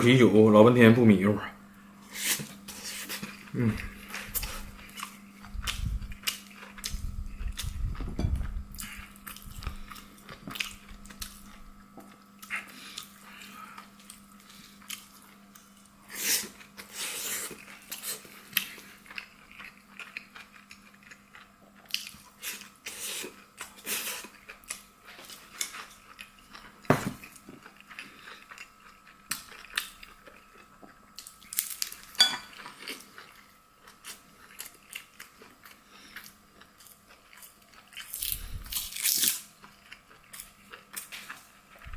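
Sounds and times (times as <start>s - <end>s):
steady low hum: 0.0s - 41.9s
person chewing crunchy food: 2.1s - 41.9s.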